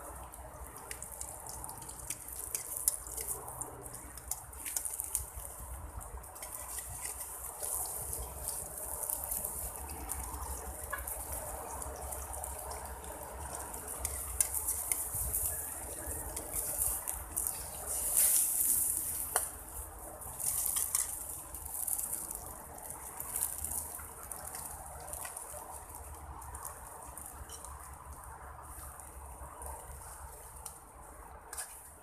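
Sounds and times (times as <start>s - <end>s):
egg sizzling in a pan: 0.0s - 28.0s
wood fire crackling: 0.0s - 32.0s.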